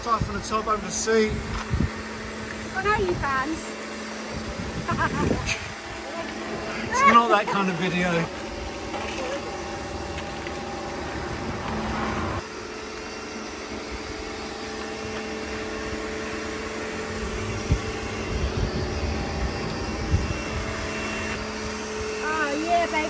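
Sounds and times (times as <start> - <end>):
pressure washer running: 0.0 - 23.0.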